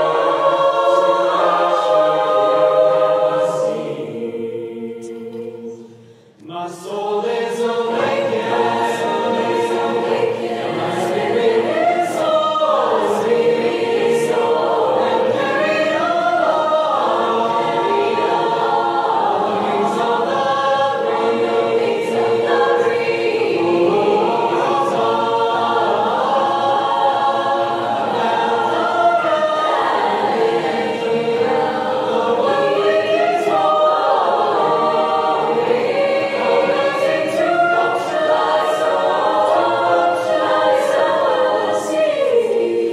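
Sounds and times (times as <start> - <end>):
mixed choir singing a cappella: 0.0 - 42.9.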